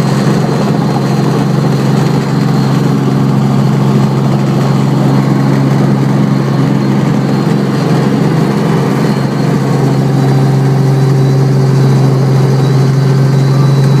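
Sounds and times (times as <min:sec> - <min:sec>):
helicopter engine and rotors: 0:00.0 - 0:14.0.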